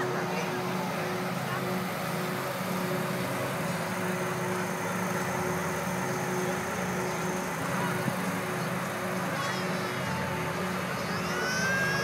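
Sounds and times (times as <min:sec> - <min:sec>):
heavy engine droning: 0:00.0 - 0:12.0.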